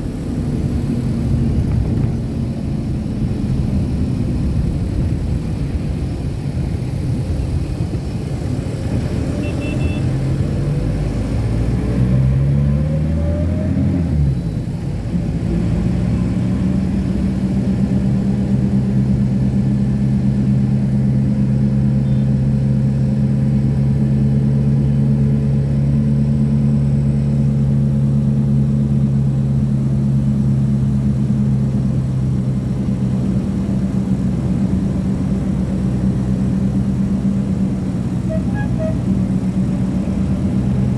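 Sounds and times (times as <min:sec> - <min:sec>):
bus engine revving: 0:00.0 - 0:40.9
road noise: 0:00.0 - 0:40.9.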